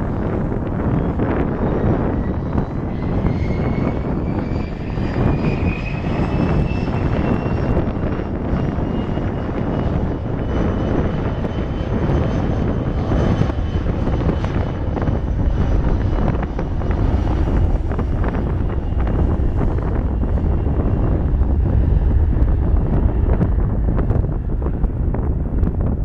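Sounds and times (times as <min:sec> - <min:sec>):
high fan whine: 0:00.0 - 0:26.0
jet engine roar: 0:00.0 - 0:26.0
wind rumble on microphone: 0:00.0 - 0:26.0.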